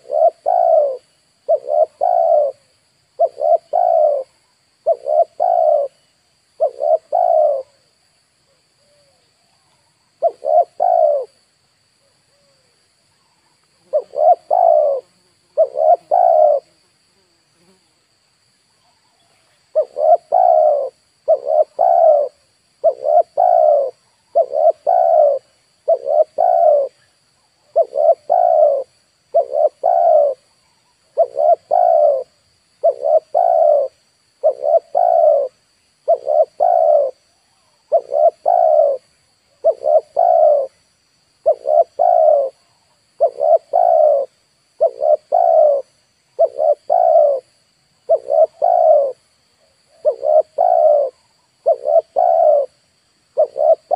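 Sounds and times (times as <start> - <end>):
dove cooing: 0.0 - 7.9, 8.5 - 11.4, 12.0 - 16.8, 19.0 - 40.8, 41.4 - 53.9.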